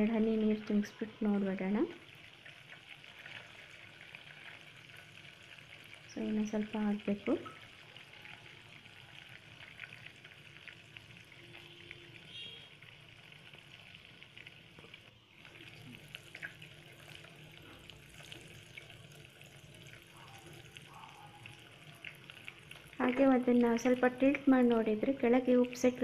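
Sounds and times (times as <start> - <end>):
butter sizzling and popping: 0.1 - 26.0.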